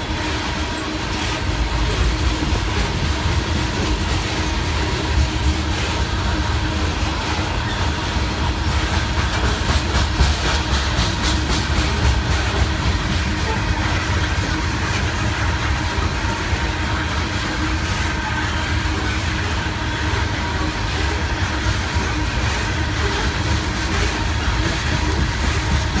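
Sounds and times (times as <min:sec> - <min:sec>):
freight train rolling past: 0:00.0 - 0:26.0.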